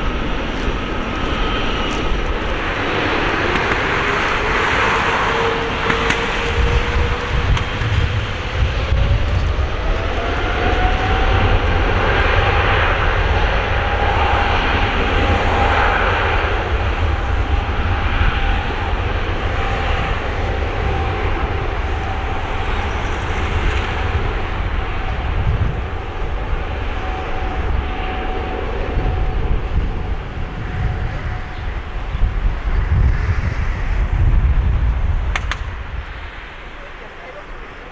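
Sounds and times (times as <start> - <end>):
jet engines whining at takeoff: 0.0 - 37.9
loud deep rumble: 0.0 - 37.9.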